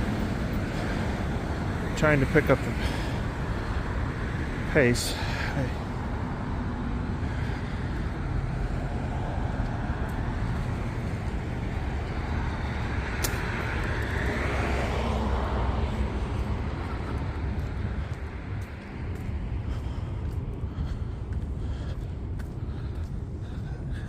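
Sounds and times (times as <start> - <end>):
steady low traffic rumble: 0.0 - 24.0
vehicle passing by: 0.0 - 24.0.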